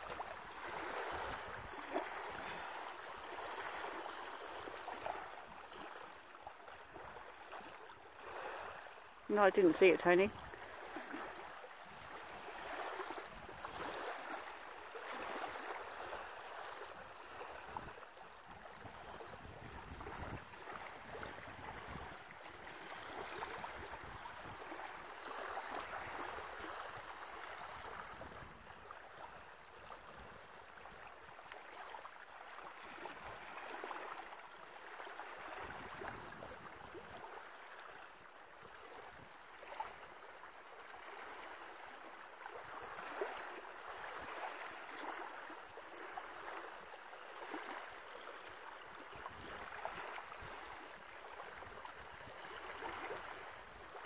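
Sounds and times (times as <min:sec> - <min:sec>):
small waves washing onto sand: 0:00.0 - 0:54.0.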